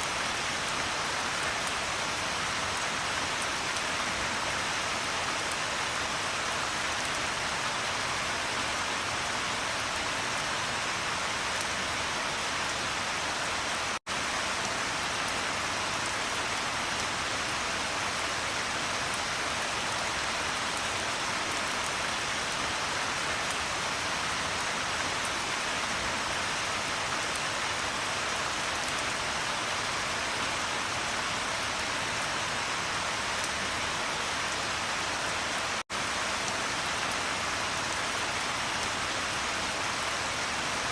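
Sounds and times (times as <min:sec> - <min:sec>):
rain falling on a surface: 0:00.0 - 0:40.9.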